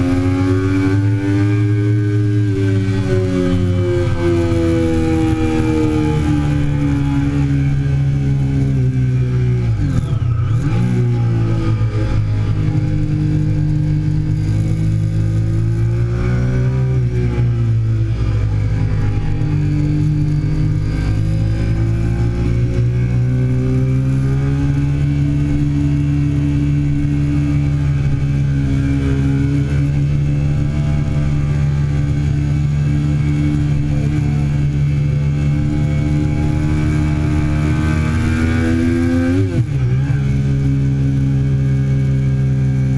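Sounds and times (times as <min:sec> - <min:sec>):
motorcycle engine at speed: 0:00.0 - 0:42.9.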